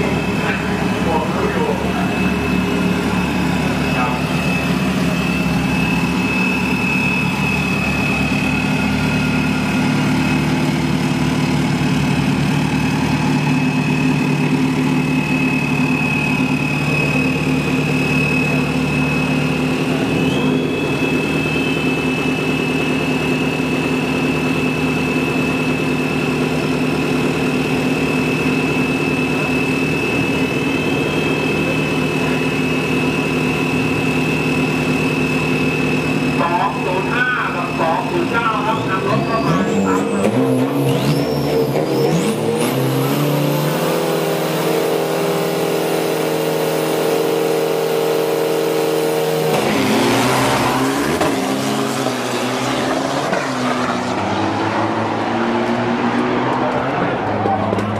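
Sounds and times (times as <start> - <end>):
diesel engines idling: 0.0 - 57.9
high whine: 0.0 - 57.9.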